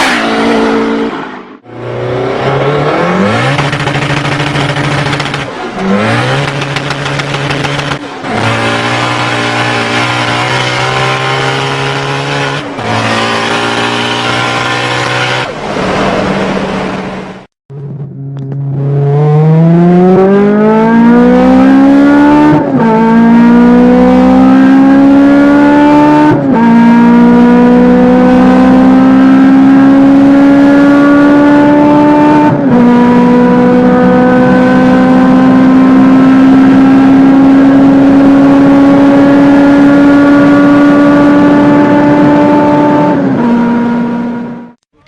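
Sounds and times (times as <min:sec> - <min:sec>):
car engine accelerating through gears: 0:00.0 - 0:17.2, 0:17.8 - 0:44.8.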